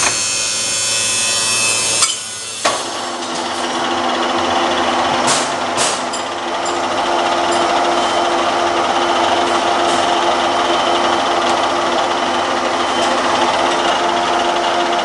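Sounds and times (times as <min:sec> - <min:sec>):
lathe gear whine: 0:00.0 - 0:15.0.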